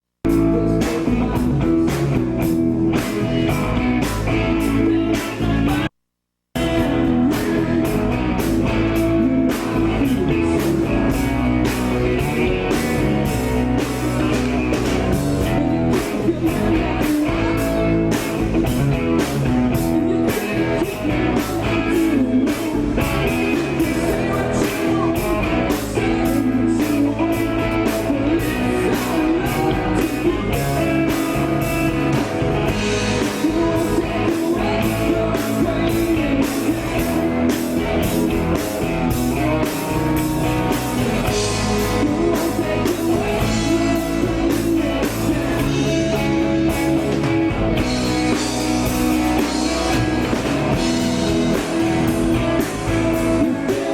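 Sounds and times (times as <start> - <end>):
drums keeping steady beat: 0.3 - 5.9, 6.6 - 53.9
person singing: 0.3 - 5.9, 6.6 - 53.9
rock band playing live: 0.3 - 5.9, 6.6 - 53.9.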